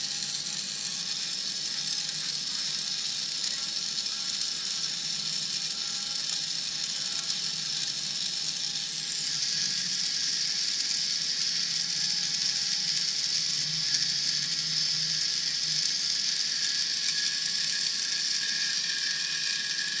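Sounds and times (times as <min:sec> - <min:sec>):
small motor whirring through gears: 0:00.0 - 0:20.0.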